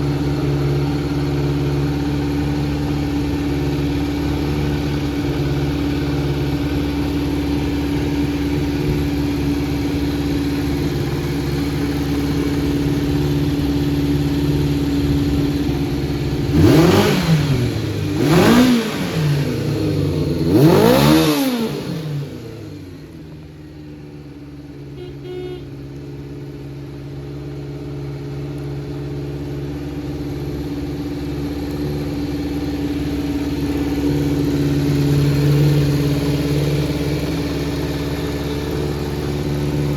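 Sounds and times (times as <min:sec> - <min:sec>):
engine throttle blips: 0:00.0 - 0:23.4, 0:24.5 - 0:26.2, 0:27.6 - 0:39.9
motorcycle engine idling: 0:00.0 - 0:39.9.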